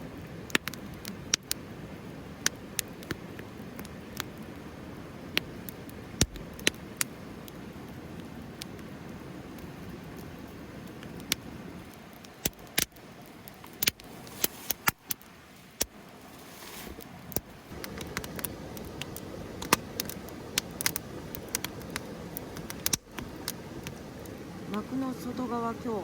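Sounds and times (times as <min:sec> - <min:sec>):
campfire crackling and popping: 0:00.0 - 0:26.0
low steady hiss: 0:00.0 - 0:26.0.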